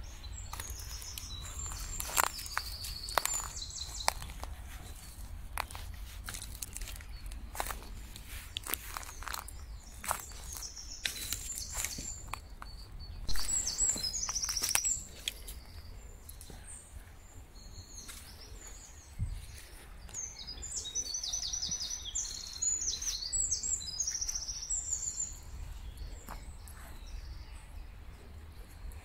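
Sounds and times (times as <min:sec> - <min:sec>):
footsteps on sand and twigs: 0:00.0 - 0:16.7, 0:18.0 - 0:25.4
songbirds trilling: 0:00.0 - 0:29.0.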